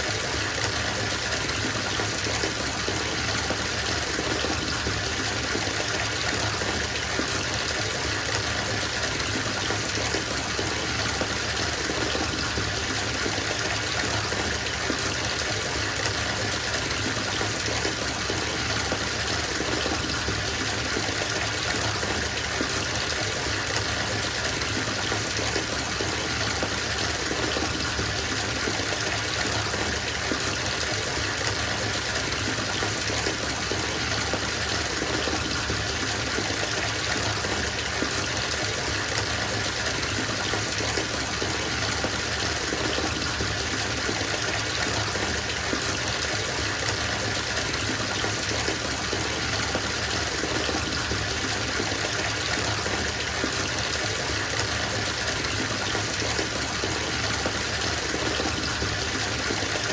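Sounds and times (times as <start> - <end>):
water pouring into bathtub: 0.0 - 59.9.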